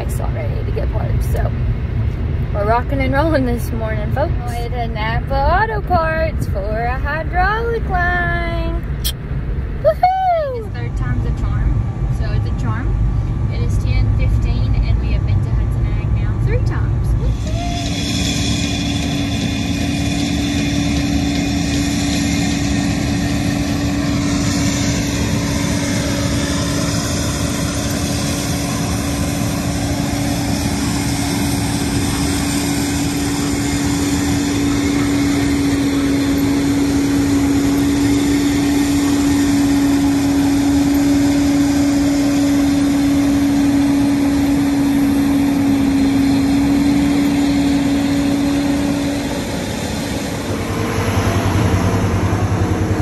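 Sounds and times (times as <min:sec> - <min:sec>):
engine running steadily: 0:00.0 - 0:53.0.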